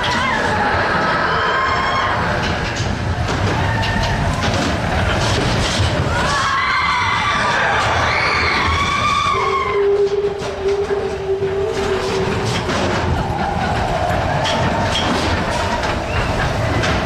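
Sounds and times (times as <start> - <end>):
riders screaming: 0.0 - 2.6, 3.5 - 17.0
roller coaster rumbling and clattering: 0.0 - 17.0.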